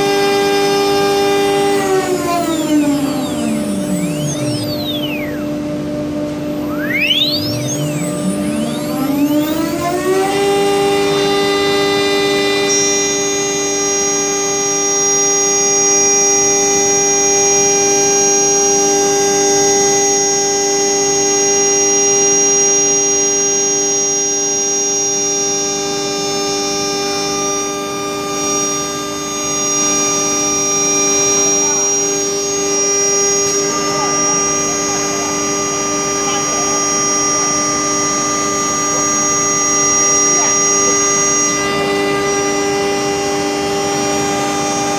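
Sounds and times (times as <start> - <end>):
router spindle high whine: 0.0 - 44.9.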